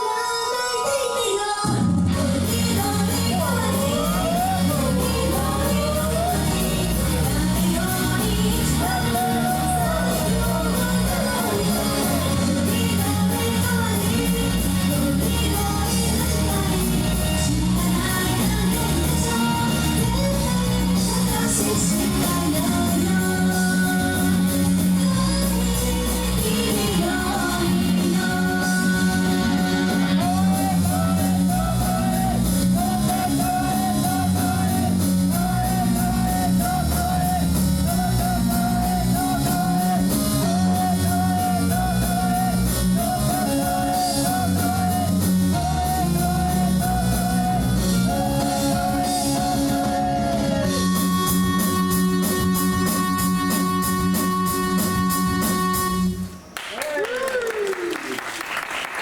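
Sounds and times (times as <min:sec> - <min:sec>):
pop-rock song over loudspeakers: 0:00.0 - 0:56.6.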